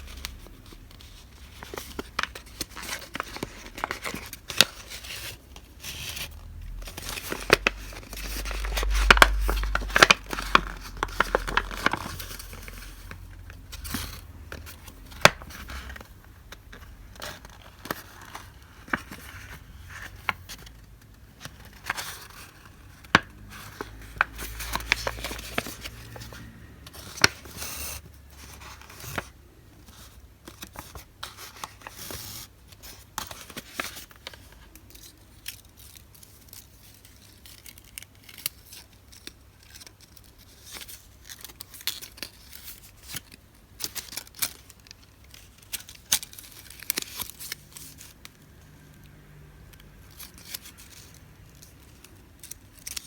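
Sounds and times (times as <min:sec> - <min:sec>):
paper rustling: 0:00.0 - 0:48.3.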